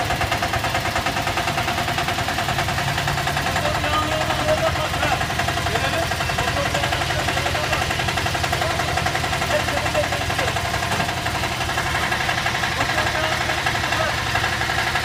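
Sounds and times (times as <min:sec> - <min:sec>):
tiller engine idling: 0:00.0 - 0:15.0.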